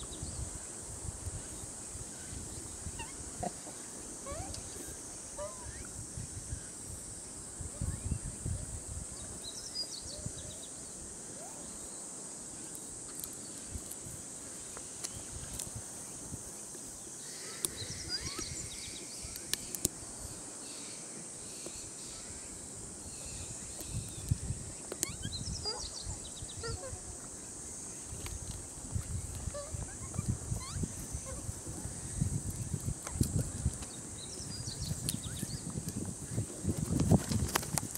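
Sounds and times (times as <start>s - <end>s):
steady high-pitched hiss: 0.0s - 37.9s.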